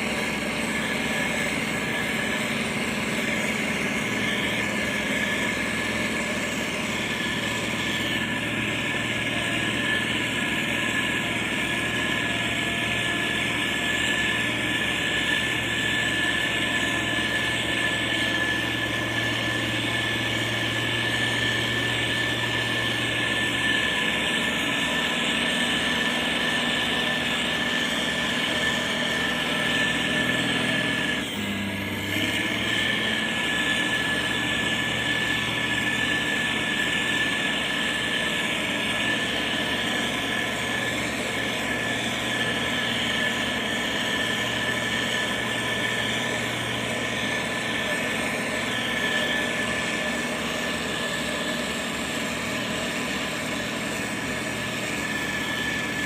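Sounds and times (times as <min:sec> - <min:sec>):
diesel engine running: 0:00.0 - 0:56.0
high-pitched whine: 0:00.0 - 0:56.0.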